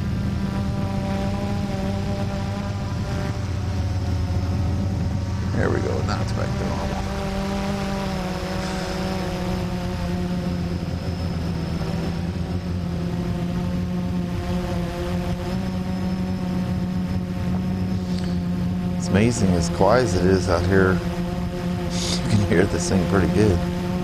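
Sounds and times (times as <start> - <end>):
quadcopter motors buzzing: 0.0 - 24.0.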